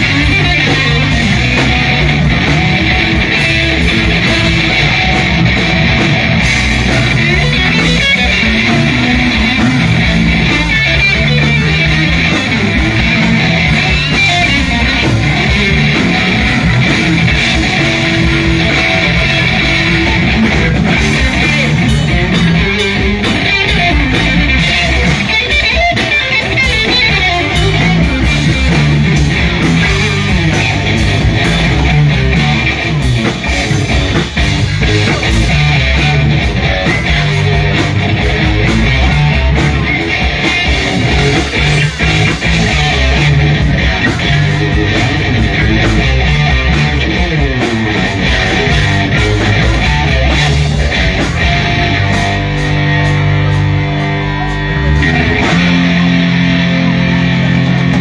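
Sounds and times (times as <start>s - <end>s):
electric guitar: 0.0s - 58.0s
steady bass line: 0.0s - 58.0s.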